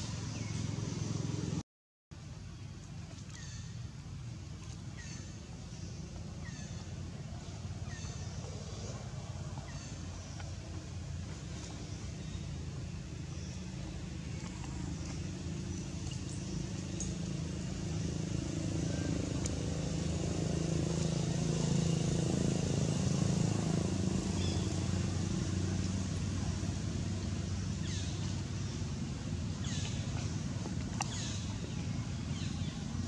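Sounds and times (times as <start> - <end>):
motor vehicle passing: 0.0 - 1.6, 5.0 - 33.0.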